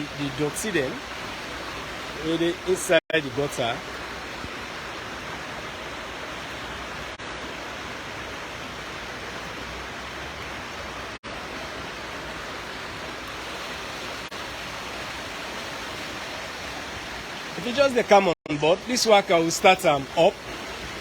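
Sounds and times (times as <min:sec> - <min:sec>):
water rushing through gutter: 0:00.0 - 0:21.0.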